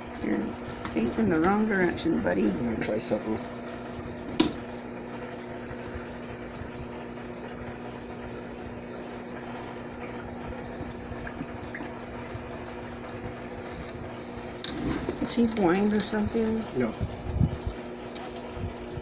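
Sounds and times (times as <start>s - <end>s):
water pump humming: 0.0s - 19.0s
water trickling: 0.0s - 19.0s.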